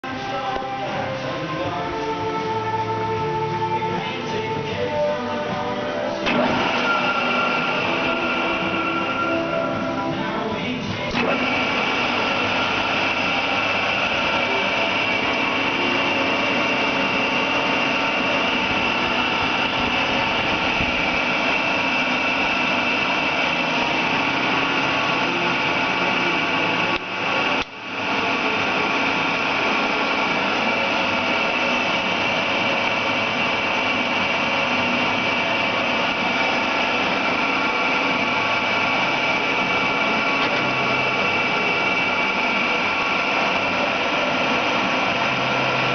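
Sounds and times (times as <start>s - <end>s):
lathe running with whine: 0.0s - 45.9s.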